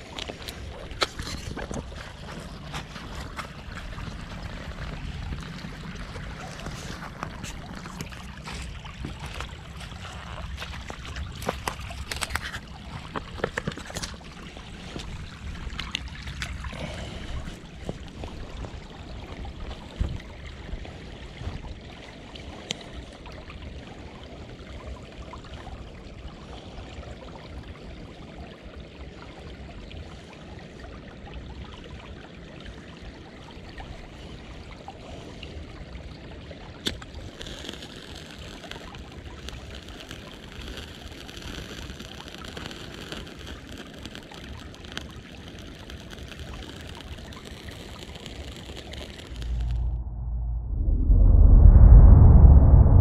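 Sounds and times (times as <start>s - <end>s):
stream trickling over rocks: 0.0s - 50.0s.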